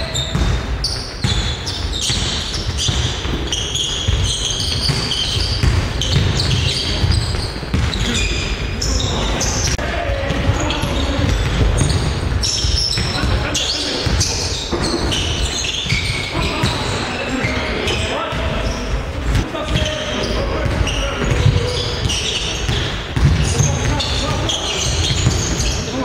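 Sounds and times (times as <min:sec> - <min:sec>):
players calling out: 0:00.0 - 0:26.0
sneakers squeaking: 0:00.0 - 0:26.0.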